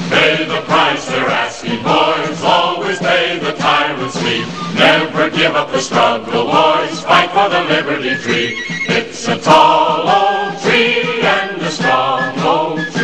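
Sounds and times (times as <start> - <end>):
crowd singing in chorus: 0.0 - 13.0.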